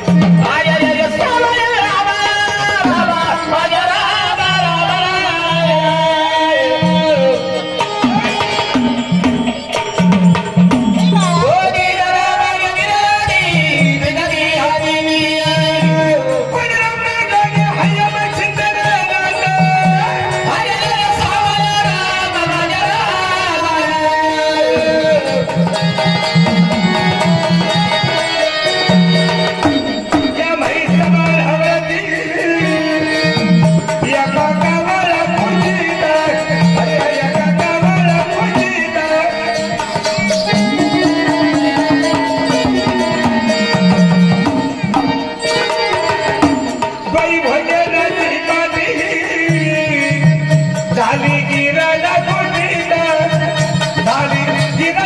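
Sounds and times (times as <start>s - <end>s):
hand drum rhythm: 0.0s - 55.0s
sustained melodic accompaniment: 0.0s - 55.0s.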